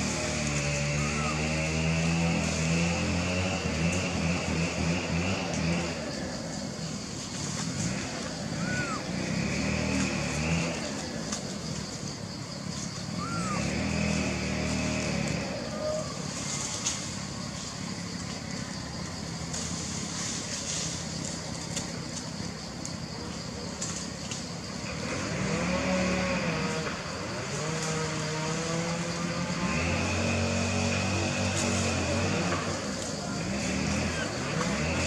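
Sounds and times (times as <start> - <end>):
motor engine running: 0.0 - 22.6, 23.8 - 35.0.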